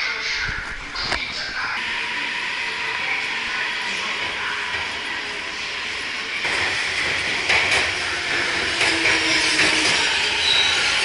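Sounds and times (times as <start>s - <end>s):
subway train rushing past: 0.0s - 11.0s.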